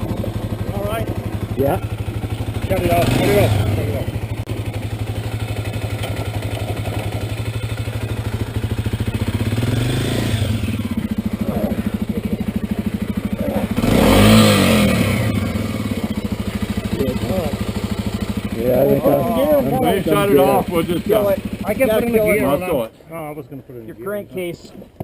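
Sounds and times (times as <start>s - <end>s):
dirt bike engine idling and revving: 0.0s - 25.0s.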